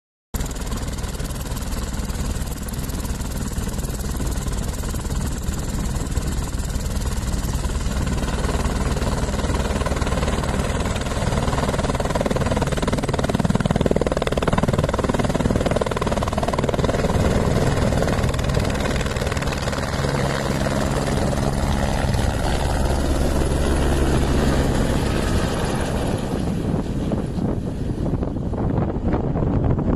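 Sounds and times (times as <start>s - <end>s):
helicopter engine and rotor: 0.4s - 29.9s.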